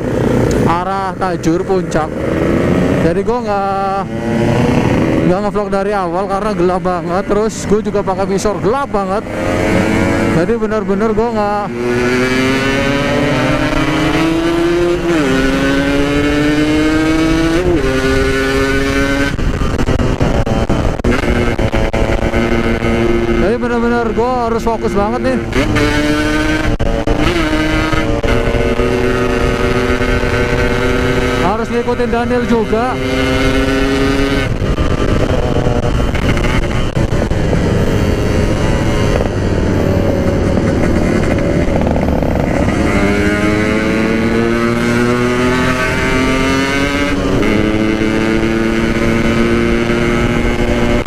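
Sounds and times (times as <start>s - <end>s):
two-stroke motorcycle engine: 0.0s - 51.0s
wind noise on microphone: 4.0s - 5.8s, 11.5s - 51.0s.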